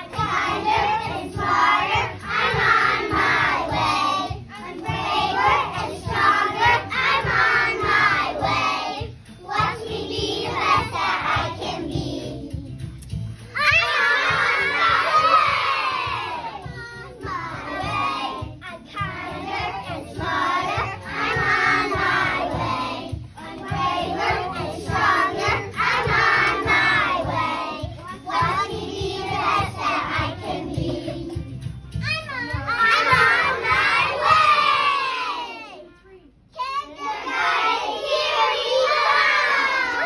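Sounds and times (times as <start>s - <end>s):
children singing and shouting: 0.0s - 40.0s.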